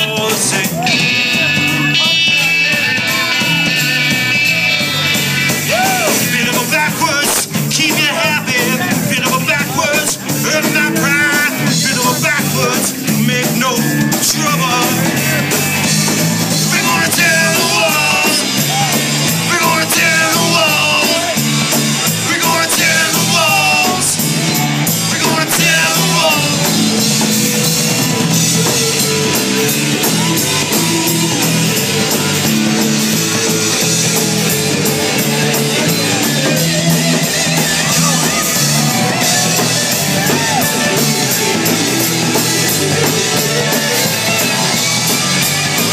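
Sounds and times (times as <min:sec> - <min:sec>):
bass: 0:00.0 - 0:45.9
drum beat: 0:00.0 - 0:45.9
high lead melody bending notes: 0:00.0 - 0:45.9.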